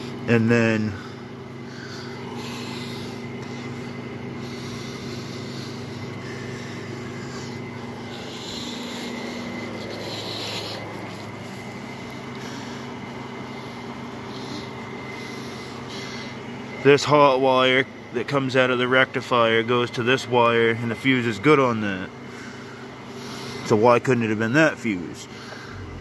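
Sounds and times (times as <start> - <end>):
faint high whine: 0.0 - 26.0
low mechanical hum: 0.0 - 26.0.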